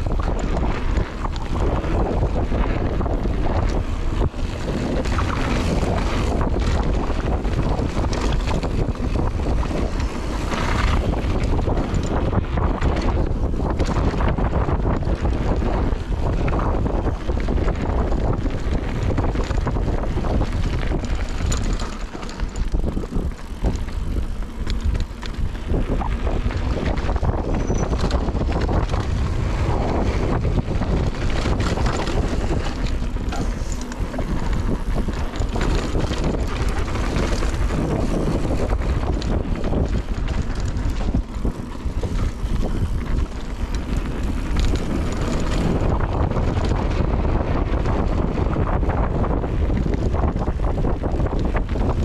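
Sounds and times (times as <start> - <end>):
bike rattling and clicking: 0.0 - 52.0
bike tyres on dirt trail: 0.0 - 52.0
wind buffeting microphone: 0.0 - 52.0.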